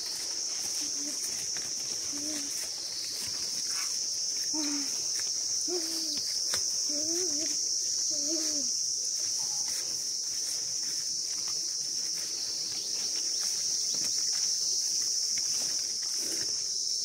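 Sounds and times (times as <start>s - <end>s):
footsteps through leafy plants: 0.0s - 17.0s
insect chorus drone: 0.0s - 17.0s.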